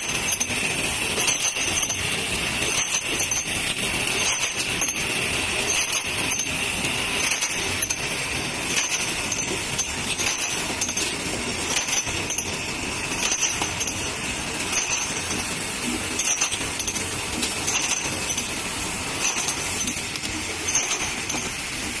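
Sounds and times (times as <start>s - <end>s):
filling machine clatter: 0.0s - 22.0s
bottles clinking: 0.1s - 22.0s.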